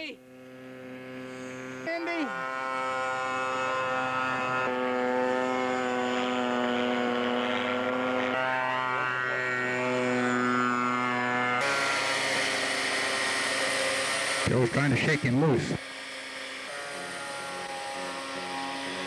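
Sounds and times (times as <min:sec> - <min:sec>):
model airplane engines droning: 0:00.0 - 0:19.0.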